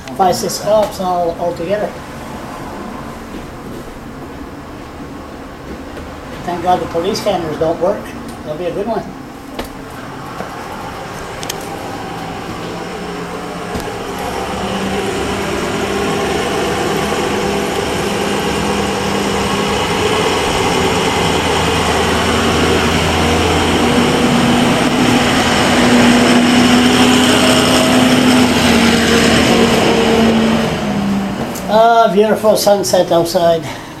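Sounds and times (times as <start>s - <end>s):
vehicle engine: 0.0s - 33.9s
road noise inside vehicle: 0.0s - 34.0s.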